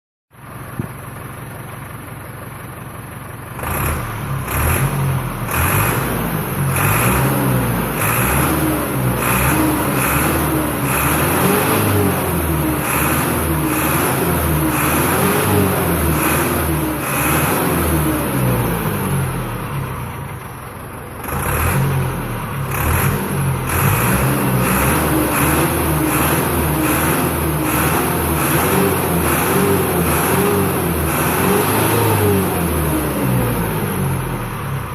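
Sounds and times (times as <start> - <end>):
tractor diesel engine revving: 3.5 - 34.9.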